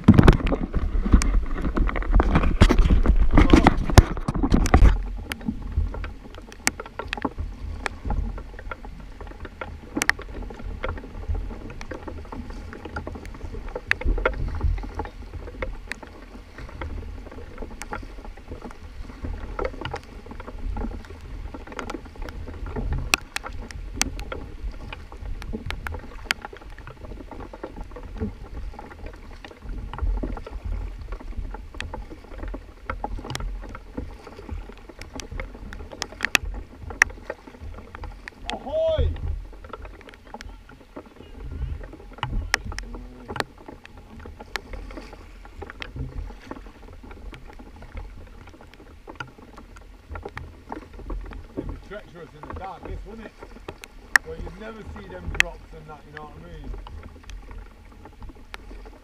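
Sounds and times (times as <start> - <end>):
kayak paddles splashing water: 0.0 - 59.0
water washing along hull: 0.0 - 59.0.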